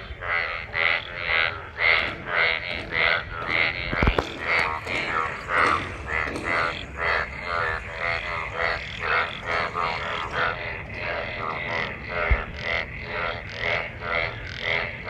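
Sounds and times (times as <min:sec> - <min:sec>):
frogs croaking: 0:00.0 - 0:15.0.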